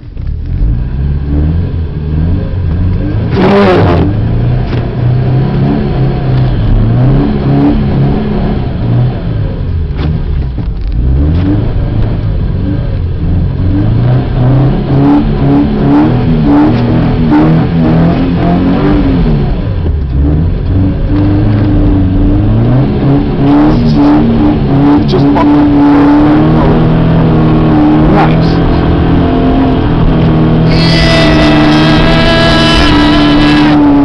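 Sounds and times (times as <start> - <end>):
car engine revving hard: 0.5 - 34.0.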